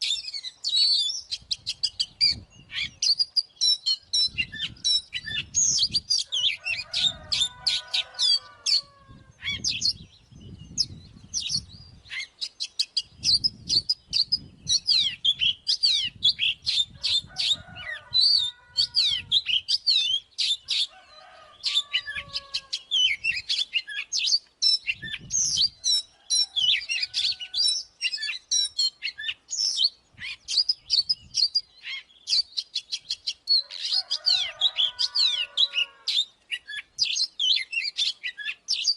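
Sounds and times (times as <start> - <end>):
bird singing whistles and trills: 0.0 - 7.5, 8.3 - 17.6, 18.2 - 20.9, 21.6 - 38.9.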